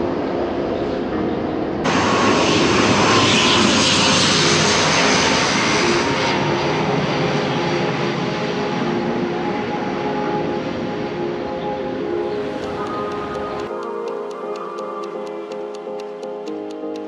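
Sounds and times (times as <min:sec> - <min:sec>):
jet engines passing: 0:00.0 - 0:13.7.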